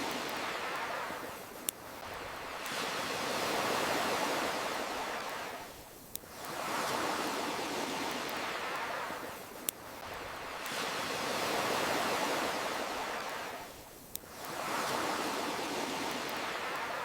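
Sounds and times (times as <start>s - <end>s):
ocean waves washing in: 0.0s - 17.0s.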